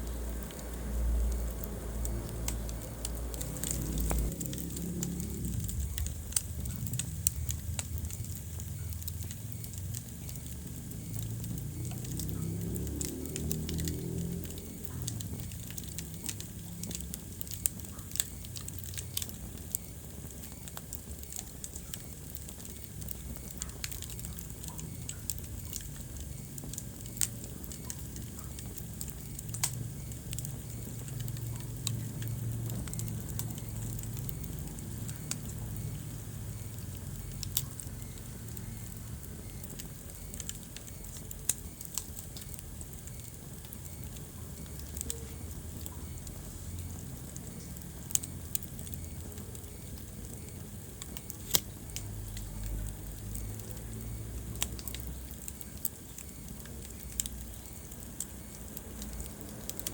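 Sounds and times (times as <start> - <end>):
low rumble of flame: 0.0 - 59.9
wood fire crackling and popping: 0.0 - 59.9.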